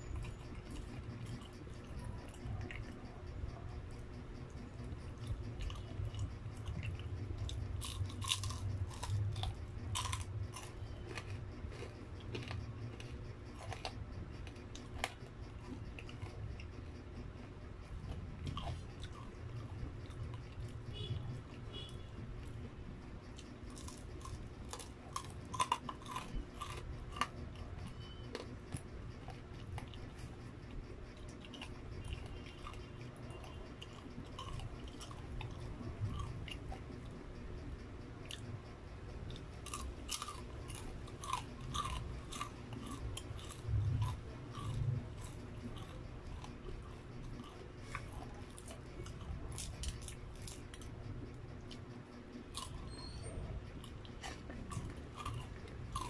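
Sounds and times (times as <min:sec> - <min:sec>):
crunchy chewing and biting: 0:00.0 - 0:56.0.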